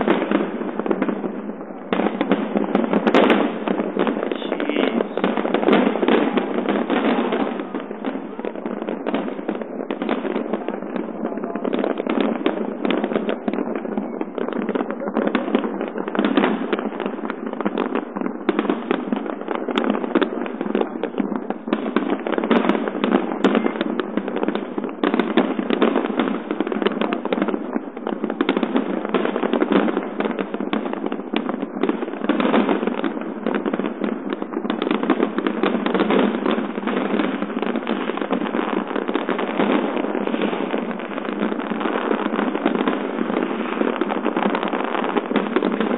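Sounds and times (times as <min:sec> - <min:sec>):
fireworks bursting: 0:00.0 - 0:45.9
fireworks crackling: 0:00.0 - 0:45.9.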